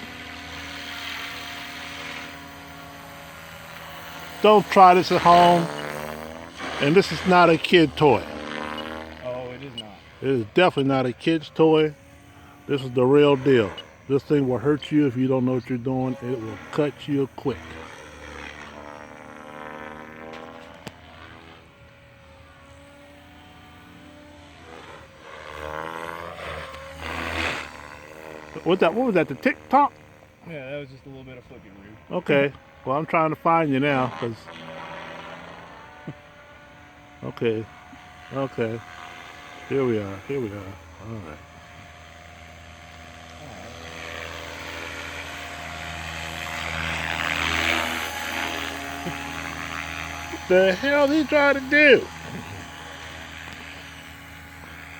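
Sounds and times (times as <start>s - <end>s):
rc helicopter rotor and motor: 0.0s - 54.9s.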